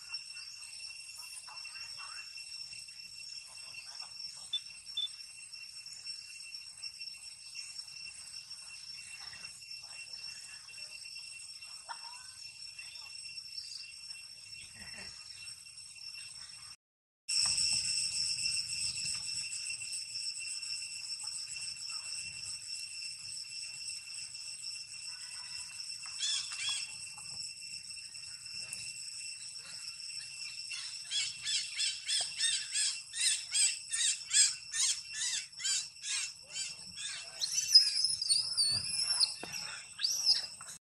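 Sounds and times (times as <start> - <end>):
insect chorus drone: 0.0 - 40.8.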